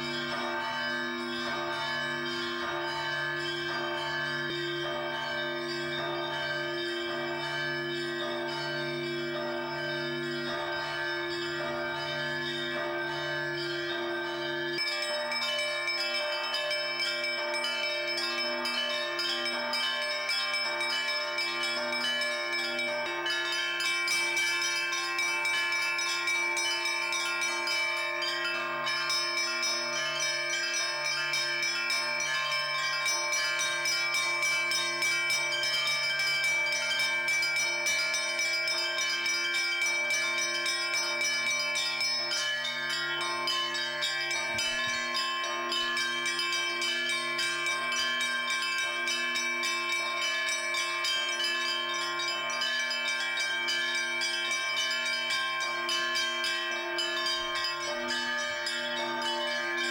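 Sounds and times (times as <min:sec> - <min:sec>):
lower bells ringing slowly: 0:00.0 - 0:59.9
small bells ringing rapidly: 0:00.0 - 0:59.9.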